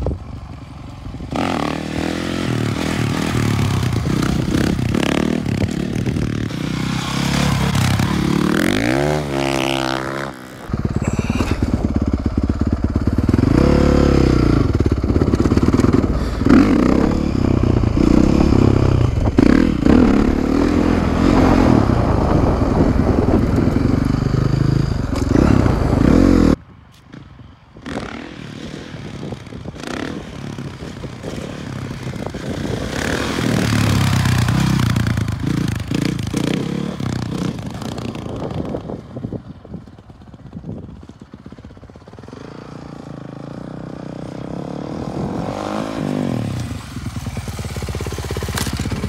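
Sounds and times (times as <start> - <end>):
motorcycle engine: 0.0 - 49.0.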